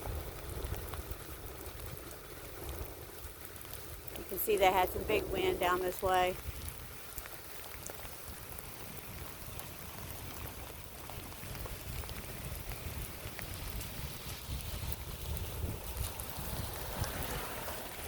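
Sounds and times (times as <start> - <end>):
rain falling: 0.0 - 18.0
raindrops ticking: 0.0 - 18.0
wind rumbling on microphone: 0.0 - 18.0.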